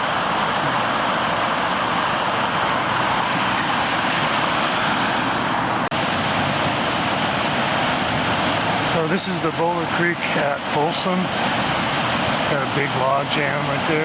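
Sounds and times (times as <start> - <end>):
floodwater rushing in creek: 0.0 - 14.0.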